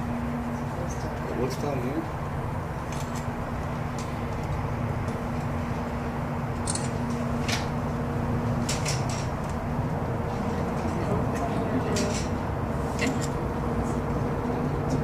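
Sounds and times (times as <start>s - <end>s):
tram cabin rumble and hum: 0.0s - 15.0s.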